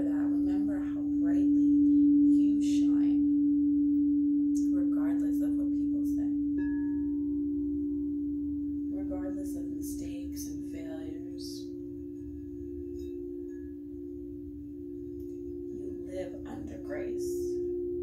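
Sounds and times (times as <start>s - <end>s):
higher singing bowl tone: 0.0s - 18.0s
low singing bowl hum: 0.0s - 18.0s.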